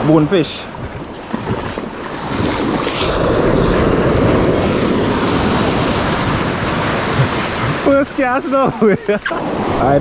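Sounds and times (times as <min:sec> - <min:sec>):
small waves washing on sand: 0:00.0 - 0:10.0
wind buffeting microphone: 0:00.6 - 0:10.0.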